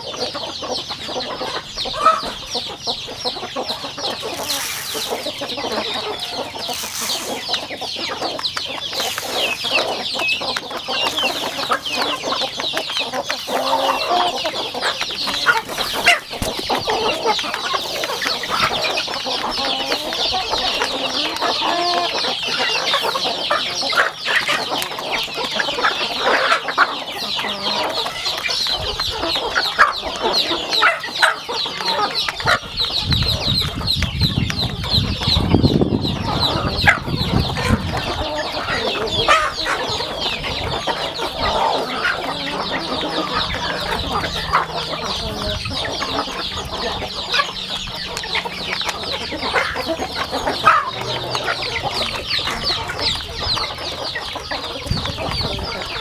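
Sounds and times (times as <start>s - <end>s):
chickens clucking: 0.0s - 56.0s
chicks peeping: 0.0s - 56.0s.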